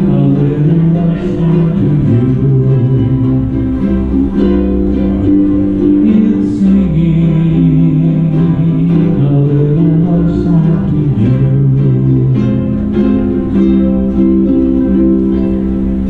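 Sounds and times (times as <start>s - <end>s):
voices singing along: 0.0s - 13.6s
ukuleles strumming: 0.0s - 16.0s.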